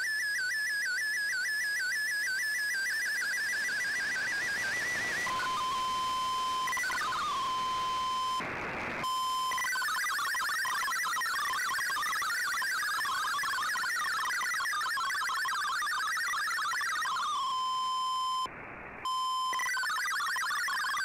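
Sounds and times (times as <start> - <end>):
rapid warbling data tones: 0.0 - 8.4, 9.0 - 21.0
wavering data tone: 0.0 - 8.4, 9.0 - 21.0.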